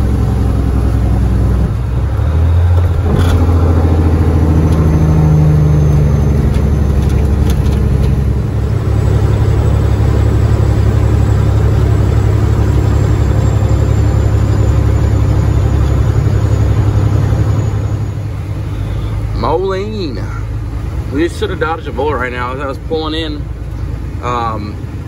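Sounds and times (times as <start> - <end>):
road noise inside cab: 0.0 - 25.0
truck diesel engine drone: 0.0 - 25.0.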